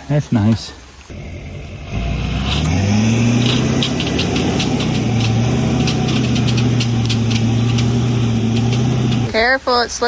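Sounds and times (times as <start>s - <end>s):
vehicle engine running: 1.1s - 9.4s.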